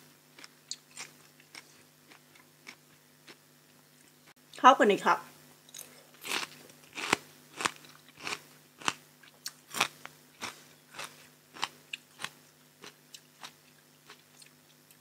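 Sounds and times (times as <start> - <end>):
crunchy chewing: 0.3 - 4.3, 5.7 - 15.0.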